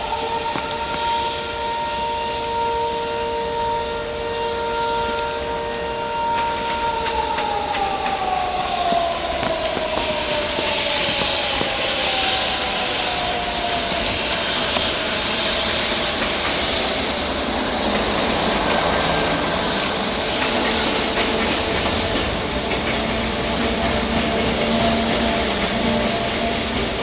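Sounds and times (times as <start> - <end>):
locomotive whine: 0.0 - 27.0
train wheels rushing on rail: 0.0 - 27.0.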